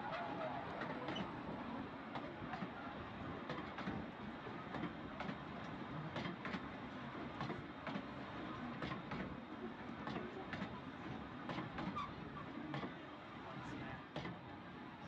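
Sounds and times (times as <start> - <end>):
train wheels rumbling on rail: 0.0 - 14.7.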